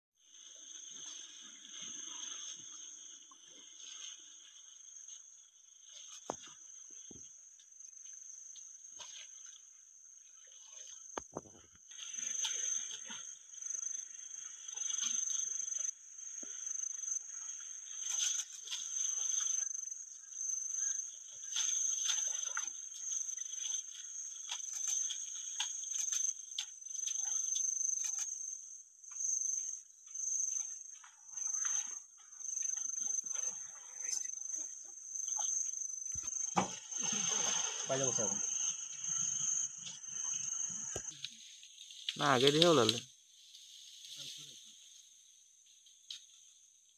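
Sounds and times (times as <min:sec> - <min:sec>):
high-pitched insect chorus: 0:00.2 - 0:46.9.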